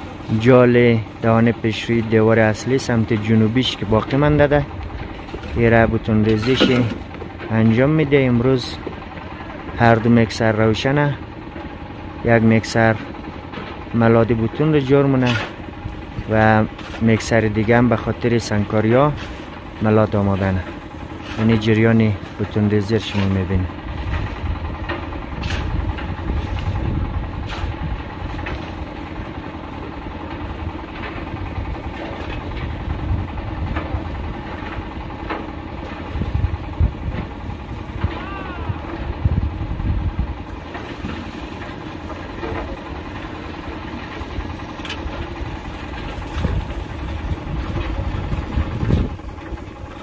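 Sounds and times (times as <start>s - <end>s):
concrete mixers running: 0.0s - 50.0s.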